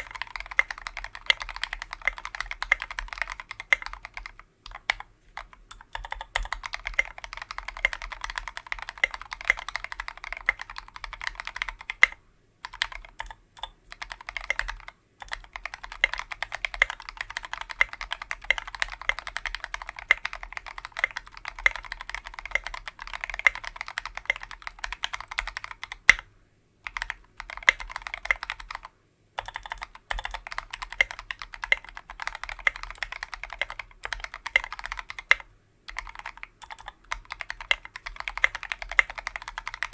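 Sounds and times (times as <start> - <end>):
fast typing on mechanical keyboard: 0.0 - 26.2, 26.8 - 39.9.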